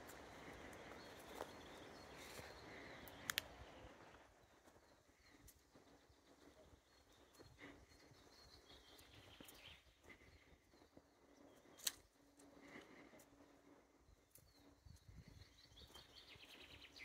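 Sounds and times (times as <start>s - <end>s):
faint songbirds calling: 0.0s - 17.0s.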